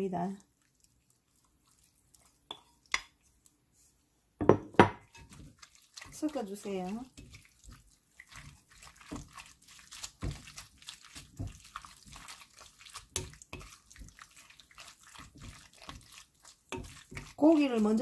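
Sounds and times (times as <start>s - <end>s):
wooden spoon stirring wet food: 0.0s - 18.0s.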